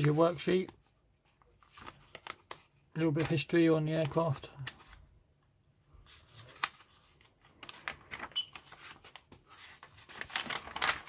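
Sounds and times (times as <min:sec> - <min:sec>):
paper pages rustling: 0:00.0 - 0:05.1, 0:06.0 - 0:11.0.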